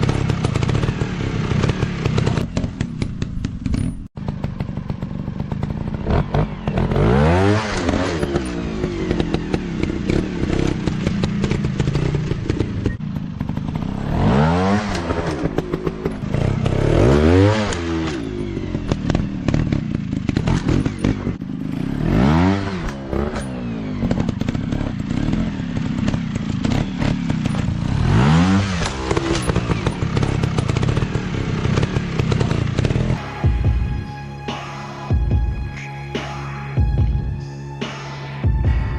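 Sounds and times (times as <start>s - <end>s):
rough mechanical clatter: 0.0s - 33.2s
dirt bike engine revving: 0.0s - 33.8s.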